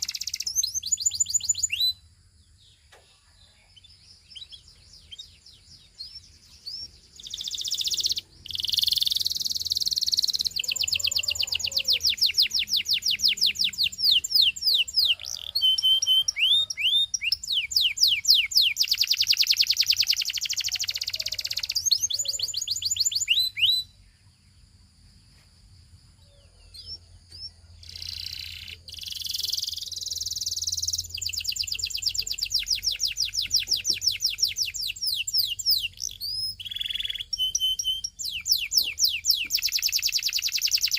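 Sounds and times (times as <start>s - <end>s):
canary singing trills: 0.0s - 24.6s, 26.1s - 40.9s.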